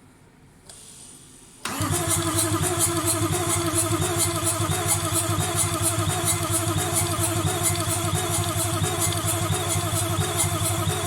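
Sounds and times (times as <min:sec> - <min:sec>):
diesel engine cranking: 0:01.7 - 0:11.0.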